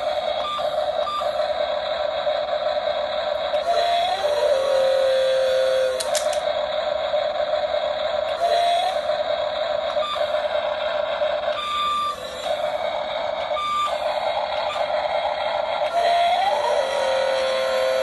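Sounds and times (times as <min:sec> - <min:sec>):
toy excavator motors whining: 0:00.0 - 0:18.0.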